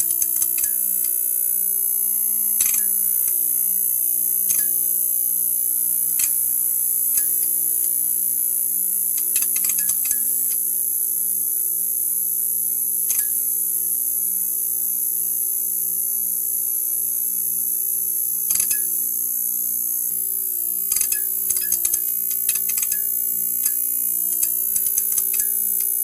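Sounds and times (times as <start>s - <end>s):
neon sign buzzing: 0.0s - 26.0s.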